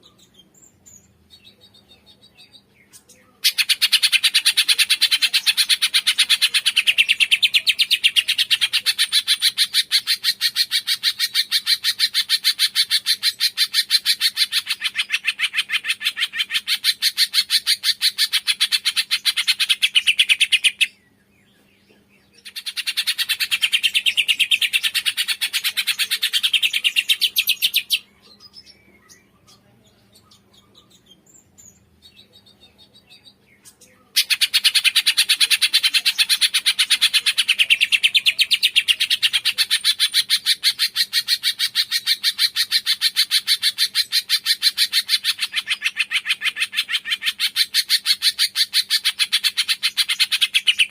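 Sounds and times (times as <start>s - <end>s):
faint bird chirps: 0.0s - 50.9s
bird chattering trill: 1.1s - 21.0s, 22.4s - 50.9s.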